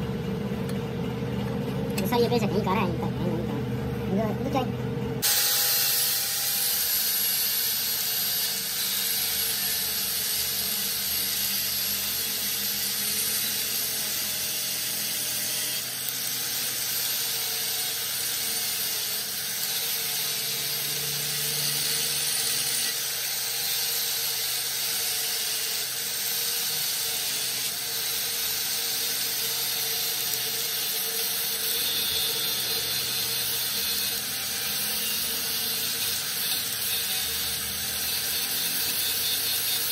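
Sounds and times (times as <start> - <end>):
angle grinder grinding metal: 5.2 - 39.9.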